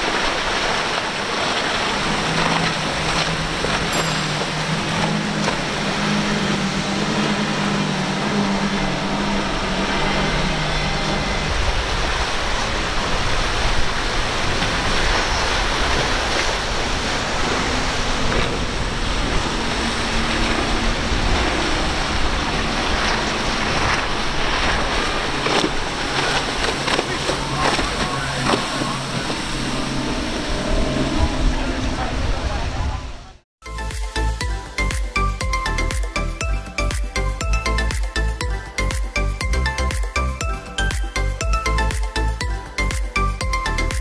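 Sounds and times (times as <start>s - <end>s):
boat engine drone: 0.0s - 44.0s
water spray and waves: 0.0s - 44.0s
wind: 0.0s - 44.0s.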